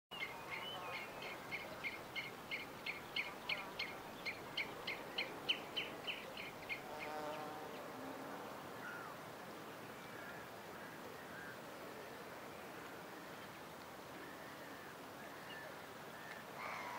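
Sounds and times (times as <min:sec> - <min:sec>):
steady background hiss: 0:00.1 - 0:16.9.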